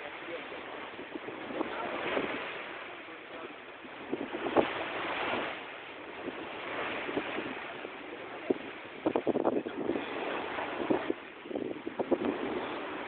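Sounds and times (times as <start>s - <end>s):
sea water rushing: 0.0s - 13.0s
wind: 0.0s - 13.0s
wind buffeting microphone: 0.0s - 13.0s.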